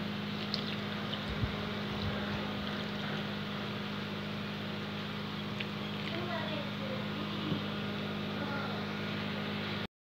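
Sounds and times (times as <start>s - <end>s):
electric fan humming: 0.0s - 9.9s.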